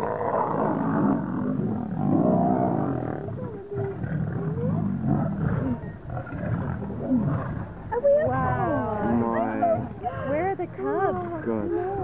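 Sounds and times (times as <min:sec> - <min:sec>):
lions growling: 0:00.0 - 0:12.0.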